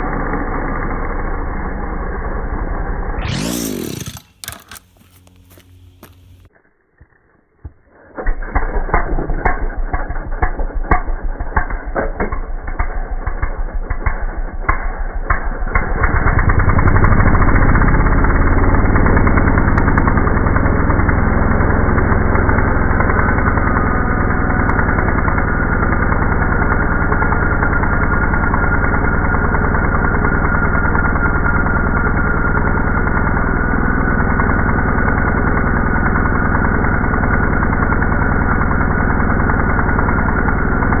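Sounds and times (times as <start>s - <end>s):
slowed engine low rumble: 0.0s - 41.0s.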